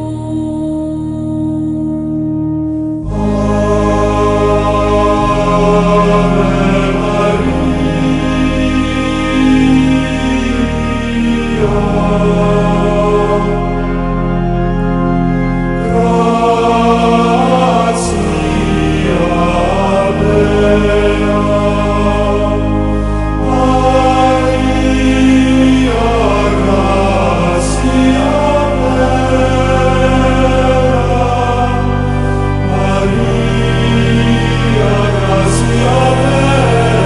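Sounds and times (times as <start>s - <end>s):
choir-like singing over chords: 0.0s - 37.0s.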